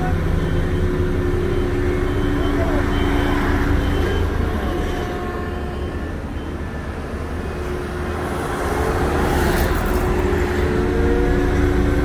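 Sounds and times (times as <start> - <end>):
heavy vehicle engine rumbling: 0.0 - 12.0.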